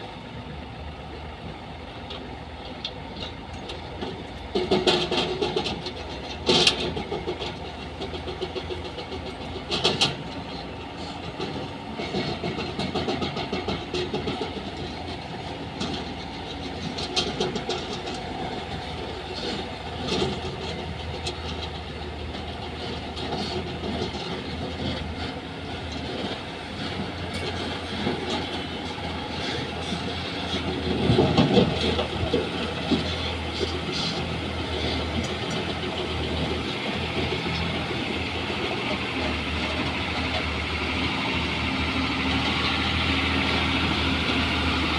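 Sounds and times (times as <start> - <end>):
heavy machinery engine din: 0.0 - 44.9
metal clanks and rattles: 2.1 - 42.8.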